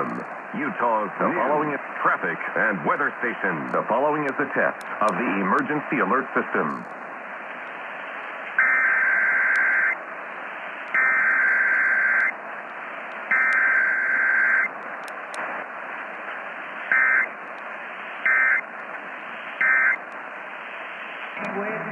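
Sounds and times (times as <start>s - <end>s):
radio hiss: 0.0s - 21.9s.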